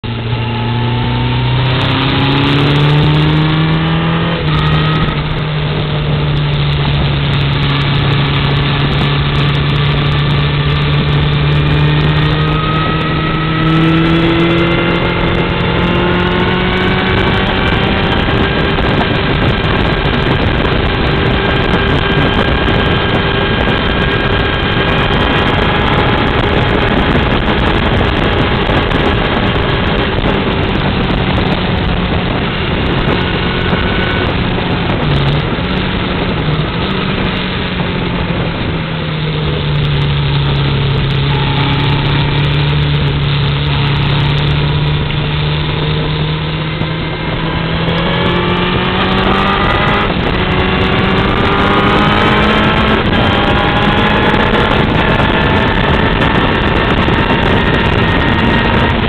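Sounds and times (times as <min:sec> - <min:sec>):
vehicle engine running: 0:00.0 - 0:59.0
wind rush: 0:00.0 - 0:59.0.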